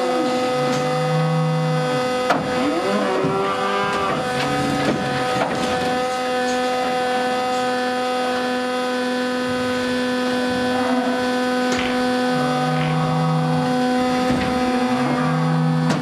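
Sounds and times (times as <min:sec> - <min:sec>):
ventilation fans humming: 0:00.0 - 0:16.0.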